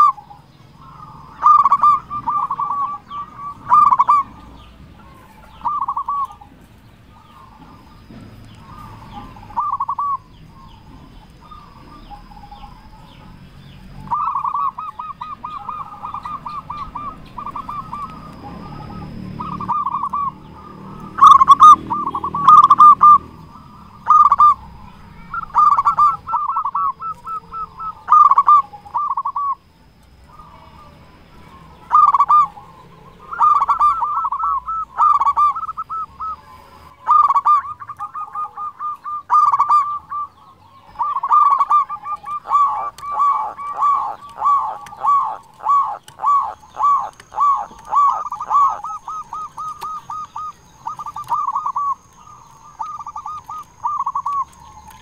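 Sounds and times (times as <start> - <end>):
dove cooing and trilling: 0.0 - 55.0.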